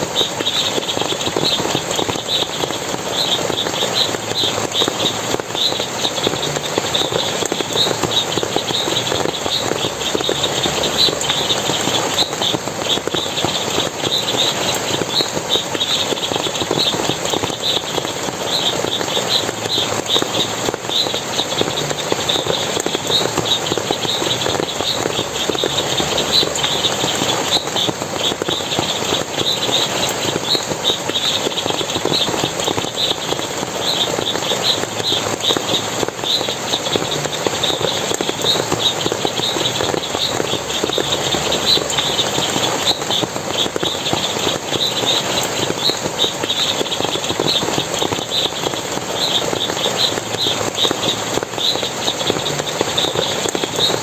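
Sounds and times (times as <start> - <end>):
high chirping calls: 0.0 - 54.0
stream water splashing: 0.0 - 54.0.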